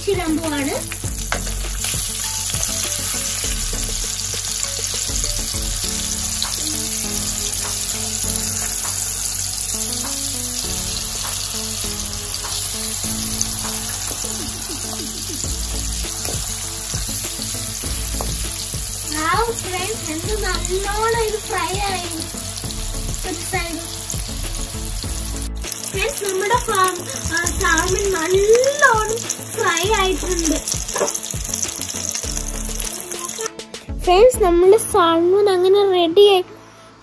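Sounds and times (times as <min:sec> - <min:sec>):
fish sizzling in a pan: 0:00.0 - 0:33.6.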